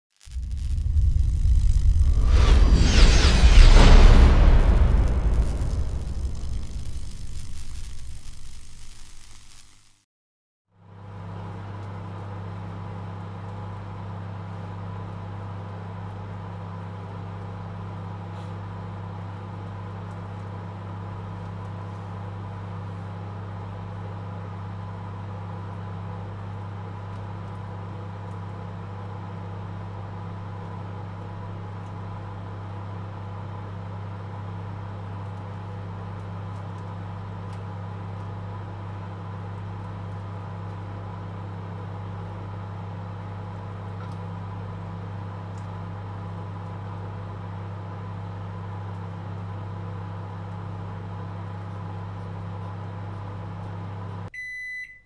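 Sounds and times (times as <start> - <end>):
microwave oven humming: 10.9 - 55.0.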